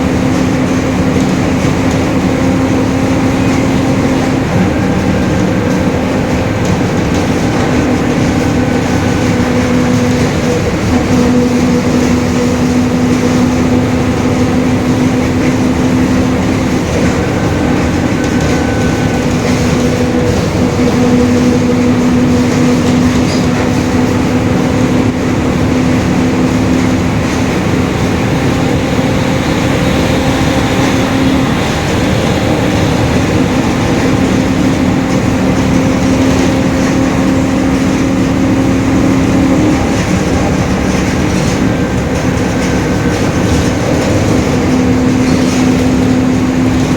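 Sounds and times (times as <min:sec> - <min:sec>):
bus engine: 0:00.0 - 0:46.9
road rumble: 0:00.0 - 0:46.9.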